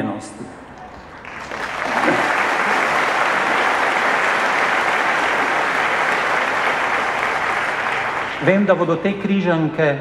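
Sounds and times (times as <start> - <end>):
large audience applauding: 0.6 - 8.9.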